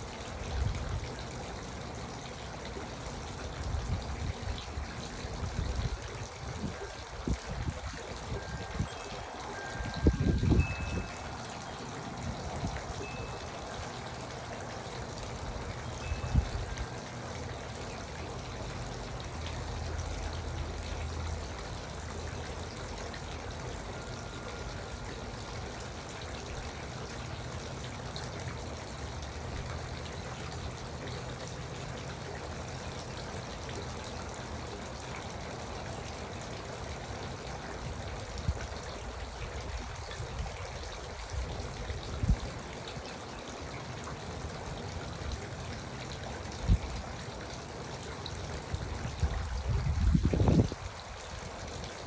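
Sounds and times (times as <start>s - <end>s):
fountain water trickling and splashing: 0.0s - 52.0s.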